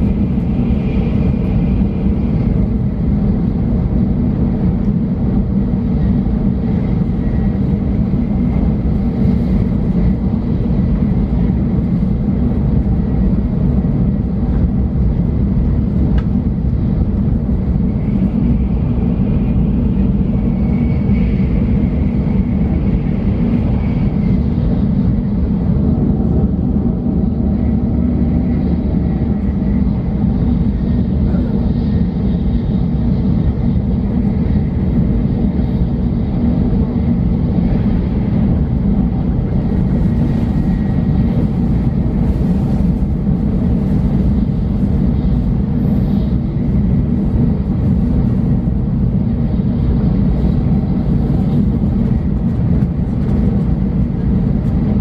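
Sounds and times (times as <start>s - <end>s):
train rumble from inside cabin: 0.0s - 55.0s.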